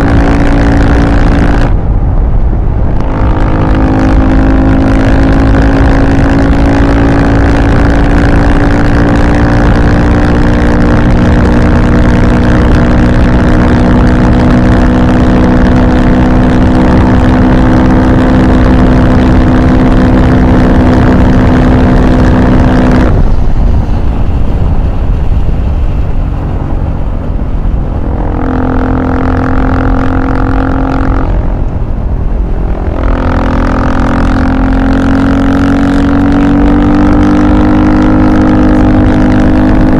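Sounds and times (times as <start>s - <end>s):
engine revving: 0.0s - 1.8s, 2.8s - 39.9s.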